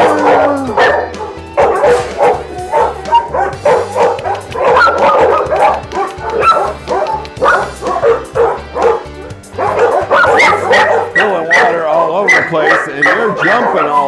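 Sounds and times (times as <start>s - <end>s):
many dogs barking and yipping: 0.0s - 14.0s.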